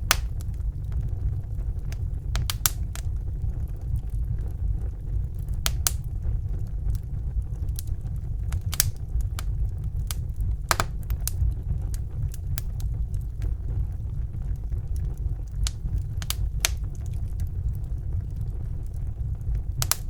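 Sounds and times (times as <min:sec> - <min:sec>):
burning logs crackling and popping: 0:00.0 - 0:20.0
fire flames rumbling: 0:00.0 - 0:20.0.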